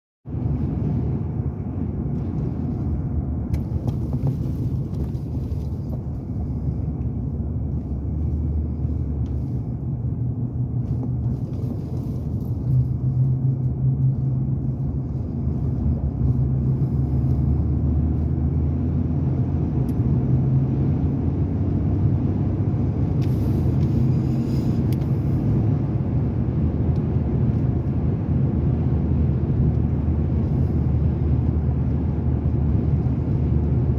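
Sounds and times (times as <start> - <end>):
car engine and road noise: 0.2 - 33.9.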